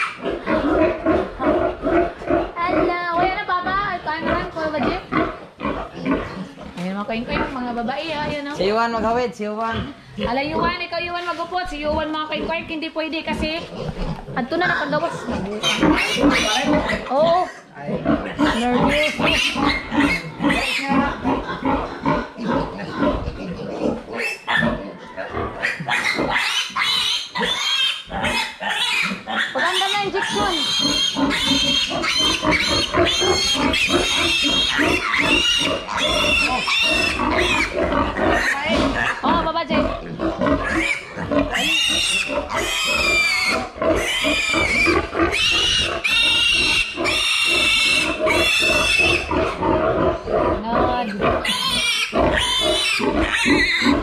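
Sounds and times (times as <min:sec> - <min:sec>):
piglets squealing: 0:00.0 - 0:54.0.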